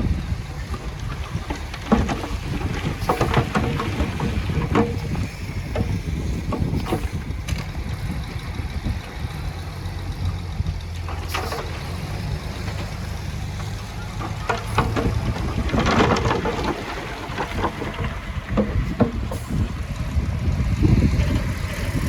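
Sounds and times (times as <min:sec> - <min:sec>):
heavy machinery diesel engine: 0:00.0 - 0:22.0.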